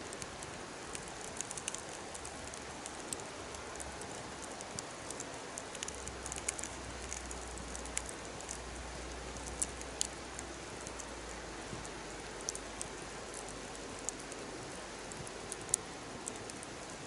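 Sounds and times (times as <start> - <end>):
fire crackling and popping: 0.0 - 17.0
wood fire hissing: 0.0 - 17.0.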